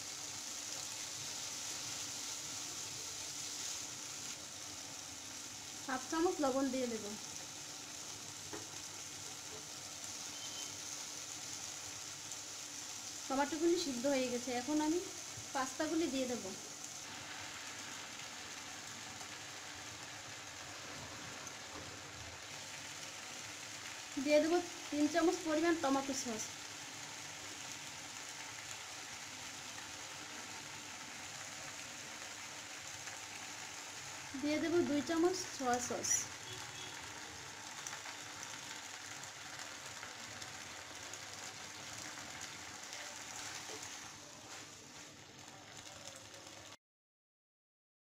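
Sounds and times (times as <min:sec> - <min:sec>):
food sizzling in a frying pan: 0:00.0 - 0:46.8.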